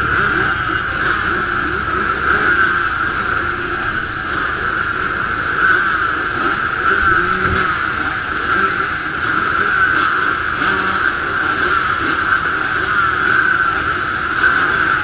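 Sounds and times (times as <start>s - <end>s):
motocross bike engines droning: 0.0s - 15.0s.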